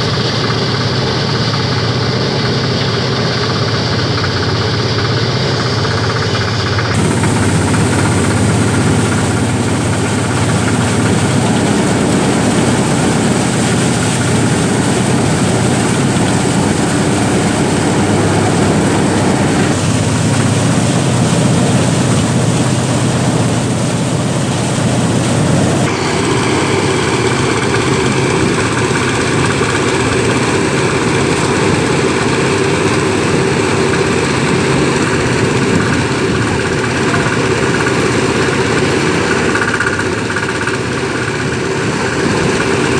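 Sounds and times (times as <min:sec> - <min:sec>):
rice thresher engine running: 0:00.0 - 0:42.9.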